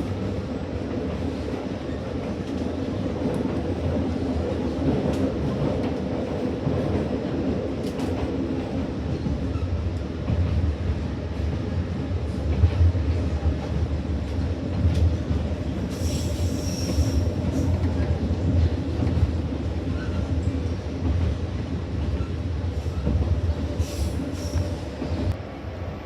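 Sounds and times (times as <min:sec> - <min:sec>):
train rumble: 0:00.0 - 0:26.0.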